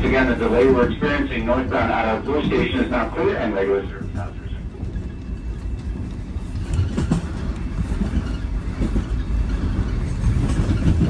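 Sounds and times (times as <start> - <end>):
subway train rumble: 0.0 - 11.0.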